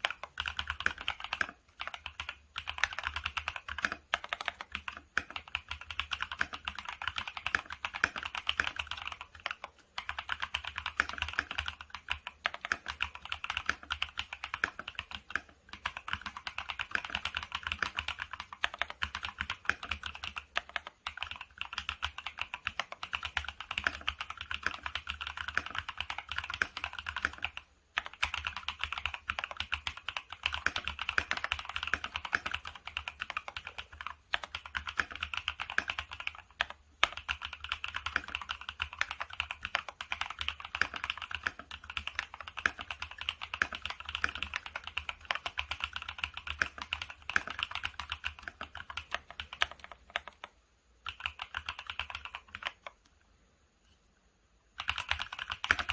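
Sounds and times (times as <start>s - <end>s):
fast mechanical keyboard typing: 0.0s - 53.0s, 54.7s - 55.9s.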